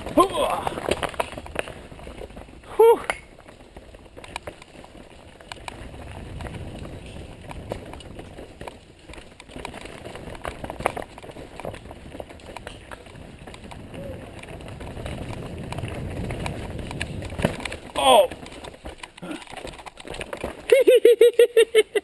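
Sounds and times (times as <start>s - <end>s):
bike clicks and rattles: 0.0s - 22.0s
bike tyres rumbling on trail: 0.0s - 22.0s.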